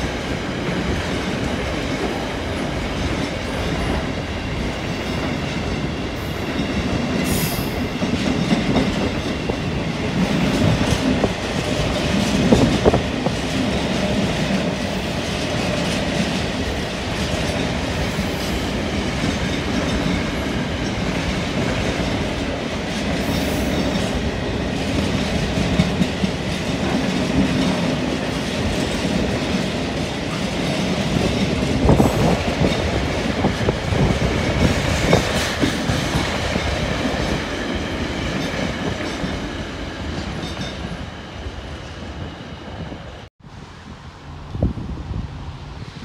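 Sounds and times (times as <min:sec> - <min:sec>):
train wheels clattering over rail joints: 0:00.0 - 0:41.0
freight train rumbling past: 0:00.0 - 0:46.0.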